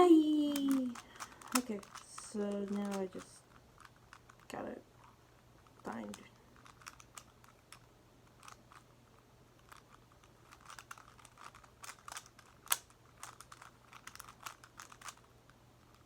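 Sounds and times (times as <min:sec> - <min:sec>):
plastic puzzle clicking: 0:00.2 - 0:04.5, 0:05.7 - 0:08.8, 0:09.6 - 0:16.0.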